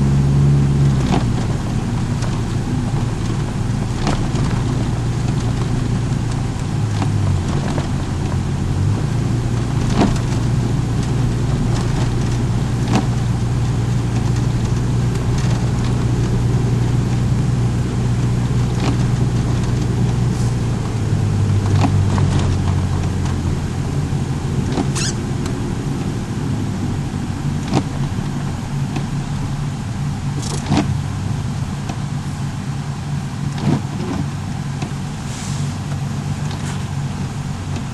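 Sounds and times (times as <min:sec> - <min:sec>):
car engine hum: 0:00.0 - 0:37.9
road noise: 0:00.0 - 0:37.9.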